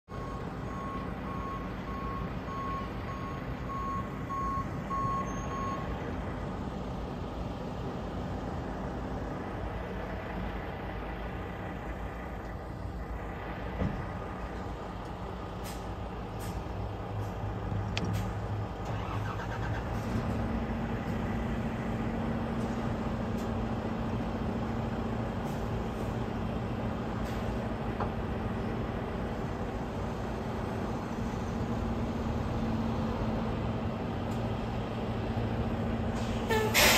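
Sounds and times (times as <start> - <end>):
diesel truck engines idling: 0.1 - 36.9
engine hum: 0.1 - 36.9.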